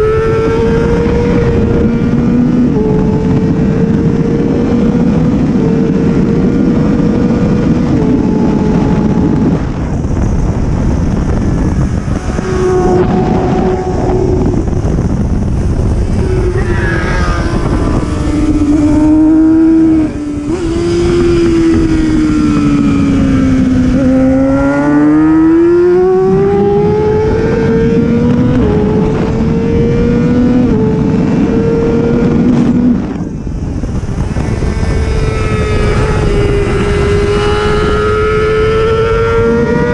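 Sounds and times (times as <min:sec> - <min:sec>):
motorcycle engine at high revs: 0:00.0 - 0:39.9
wind rush: 0:00.0 - 0:39.9.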